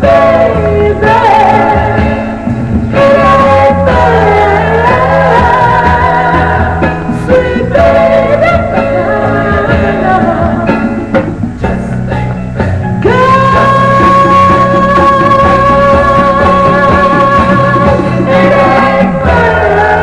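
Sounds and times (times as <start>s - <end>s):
soul vocal group singing over band: 0.0s - 12.4s, 13.0s - 20.0s.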